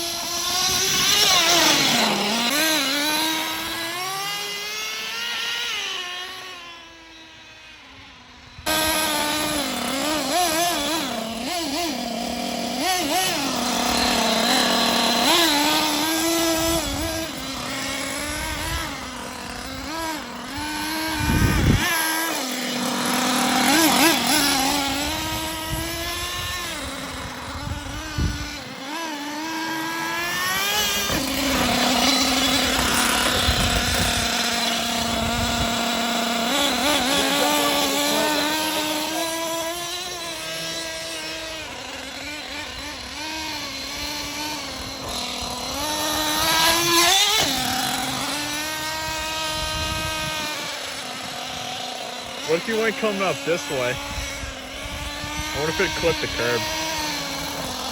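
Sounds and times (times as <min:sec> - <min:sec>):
small engine revving: 0:00.0 - 0:57.9.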